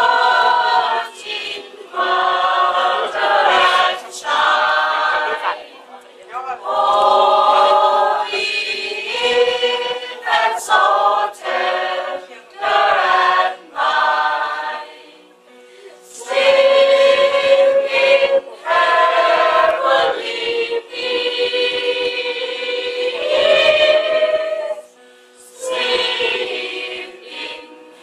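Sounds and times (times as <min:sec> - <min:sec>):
choir singing a christmas song: 0:00.0 - 0:28.0.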